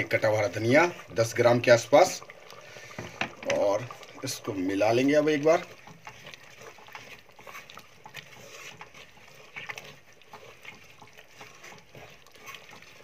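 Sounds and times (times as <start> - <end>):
thick curry bubbling: 0.0 - 13.0
wooden spoon stirring in metal pot: 0.0 - 13.0.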